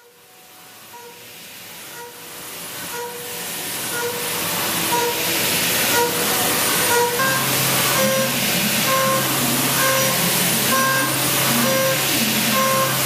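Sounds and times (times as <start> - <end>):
end mill cutting steel: 0.9 - 13.0.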